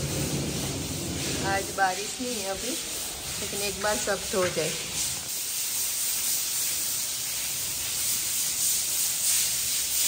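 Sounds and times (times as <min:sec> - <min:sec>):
hose water spraying on concrete: 0:00.0 - 0:10.0.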